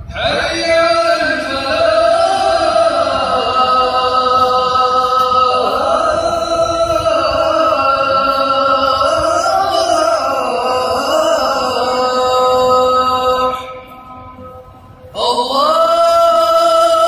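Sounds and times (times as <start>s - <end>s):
person chanting long sliding notes: 0.1s - 17.0s.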